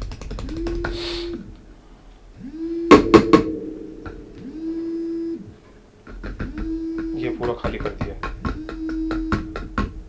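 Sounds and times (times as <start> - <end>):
low steady hum: 0.5 - 10.0.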